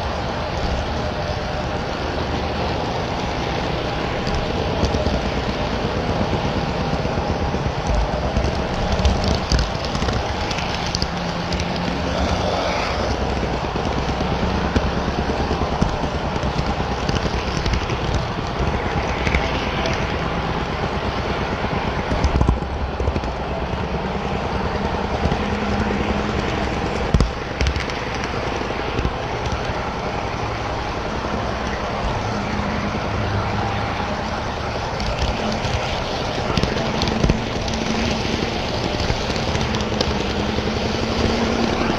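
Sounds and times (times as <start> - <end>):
clicks over rail joints: 0.0 - 41.9
model train wheels rumbling: 0.0 - 41.9.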